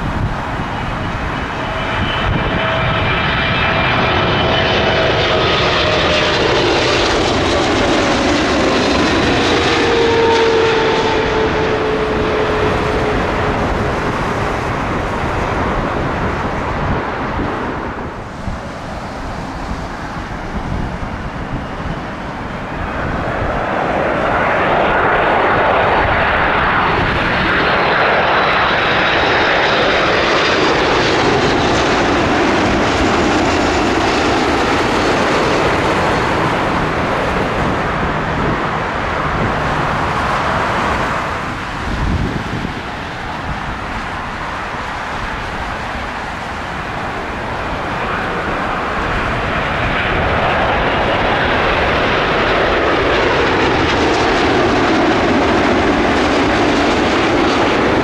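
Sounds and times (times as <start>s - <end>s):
jet airliner engines roaring: 0.0s - 58.0s.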